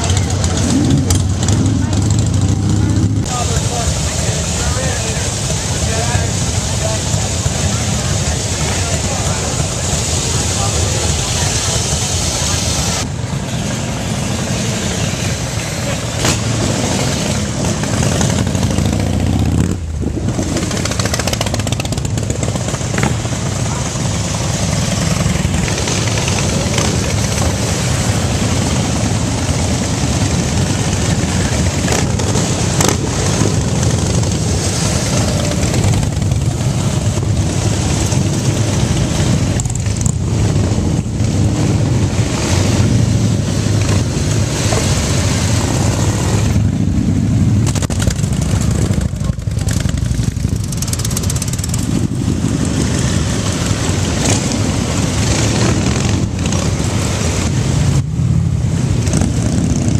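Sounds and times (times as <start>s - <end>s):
motorcycle engines running: 0.0s - 59.9s.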